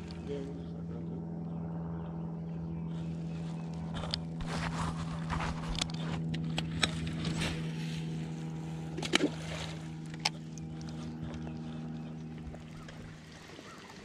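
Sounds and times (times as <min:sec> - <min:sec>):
electric trolling motor humming: 0:00.0 - 0:14.0.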